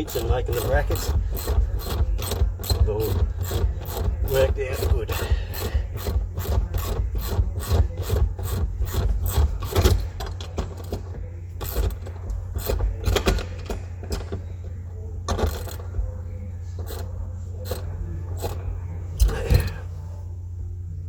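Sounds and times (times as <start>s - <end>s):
hand tool rasping metal: 0.0s - 14.4s, 16.8s - 18.6s, 19.2s - 19.9s.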